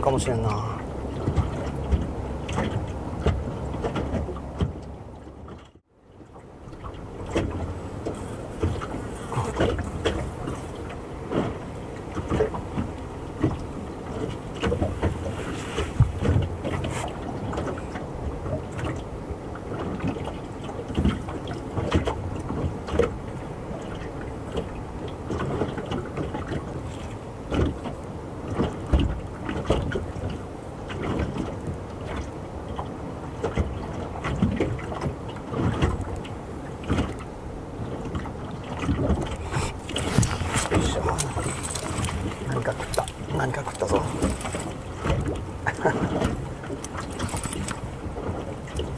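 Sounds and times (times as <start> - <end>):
boat knocking: 0.0 - 48.9
water and wind: 0.0 - 48.9
waves lapping against boat hull: 0.0 - 48.9.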